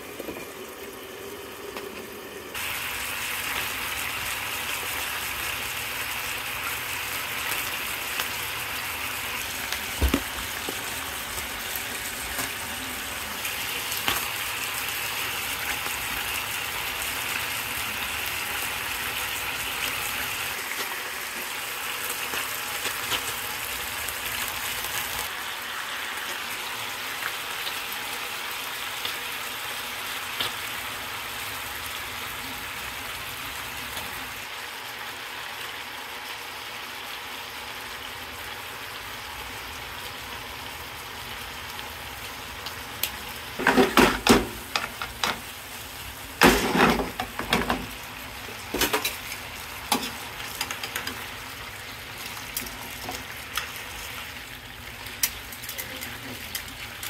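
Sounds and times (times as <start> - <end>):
chicken sizzling in a frying pan: 0.0 - 57.0.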